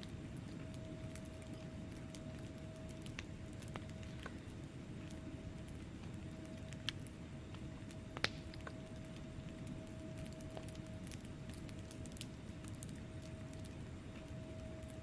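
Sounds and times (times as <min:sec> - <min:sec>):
logs crackling: 0:00.0 - 0:15.0
wood fire burning: 0:00.0 - 0:15.0.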